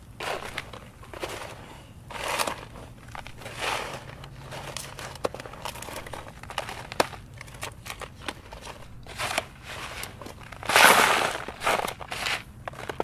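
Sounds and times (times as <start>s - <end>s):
hands mixing dry clay: 0.0s - 13.0s
scooping scrapes: 0.2s - 7.0s, 8.0s - 13.0s.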